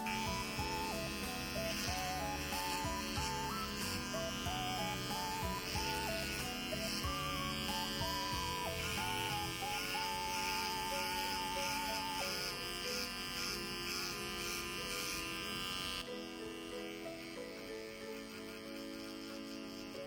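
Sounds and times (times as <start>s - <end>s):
background music: 0.0s - 20.0s
electric hair clippers buzzing: 0.0s - 20.0s.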